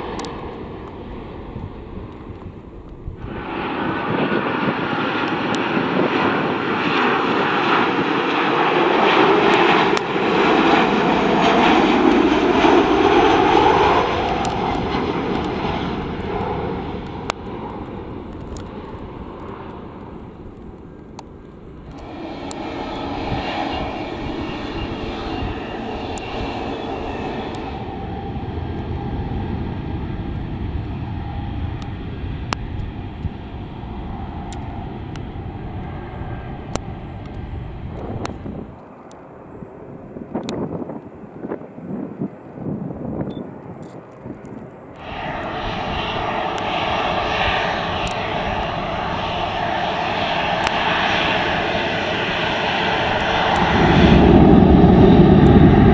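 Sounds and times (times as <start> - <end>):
jet engines taking off: 0.0 - 55.9
quieter jet engine sound: 0.0 - 55.9.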